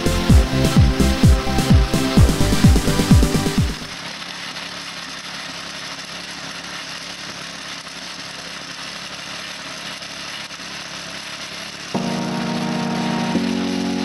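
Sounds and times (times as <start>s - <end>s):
tiller engine running: 0.0s - 14.0s.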